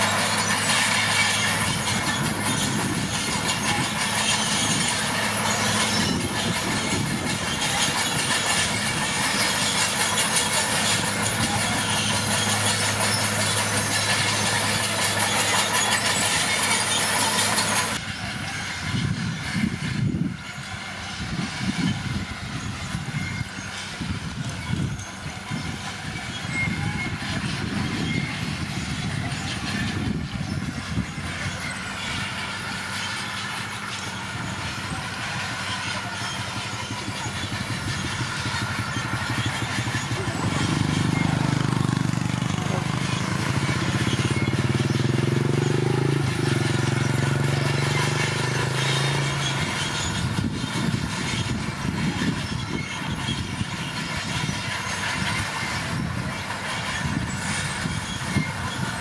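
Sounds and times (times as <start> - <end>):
diesel engine running: 0.0 - 59.0
steel tracks clanking: 0.0 - 59.0.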